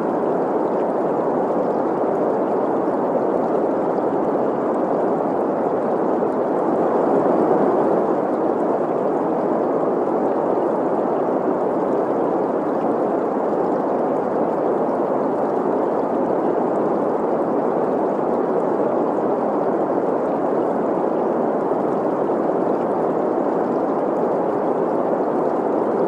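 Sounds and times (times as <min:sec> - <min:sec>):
flowing stream: 0:00.0 - 0:26.0.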